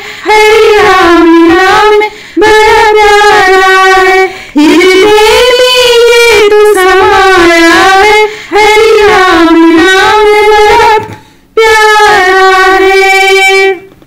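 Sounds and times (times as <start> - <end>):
woman singing devotional song: 0.0 - 14.0.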